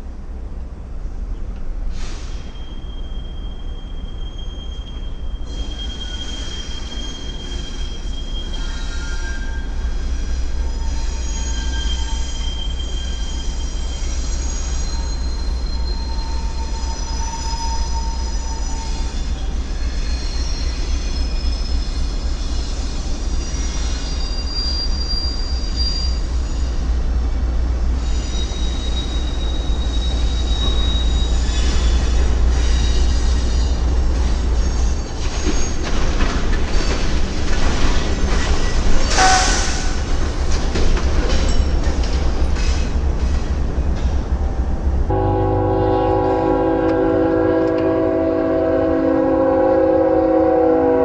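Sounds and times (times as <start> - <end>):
train rumbling: 0.0 - 51.0
train wheels squealing: 1.8 - 44.8.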